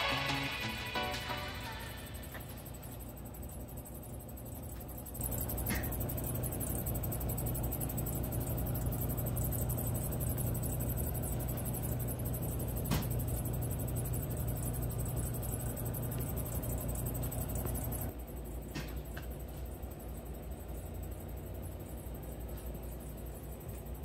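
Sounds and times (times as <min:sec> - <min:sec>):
conveyor dryer humming: 0:00.0 - 0:24.0.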